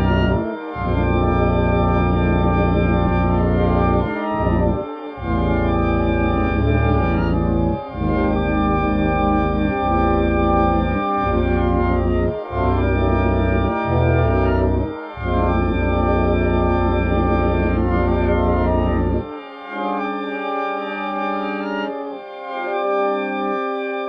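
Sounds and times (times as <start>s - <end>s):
organ-like keyboard chords: 0.0s - 24.0s.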